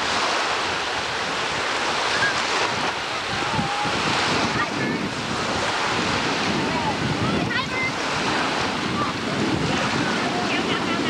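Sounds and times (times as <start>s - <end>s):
lake waves washing in: 0.0s - 11.0s
wind buffeting microphone: 0.0s - 11.0s.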